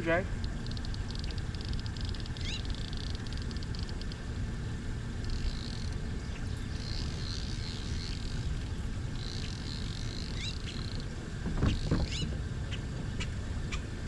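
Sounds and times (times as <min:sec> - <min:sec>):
wind rumble: 0:00.0 - 0:14.0
birds chirping and trilling: 0:00.4 - 0:04.0, 0:05.2 - 0:14.0.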